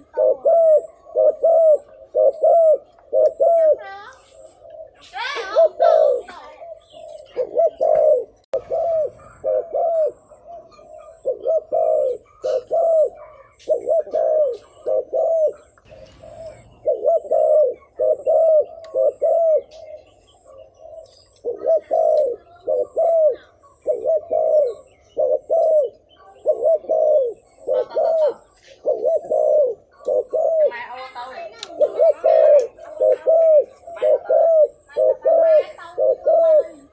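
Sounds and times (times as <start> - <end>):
dove cooing: 0.0 - 36.9.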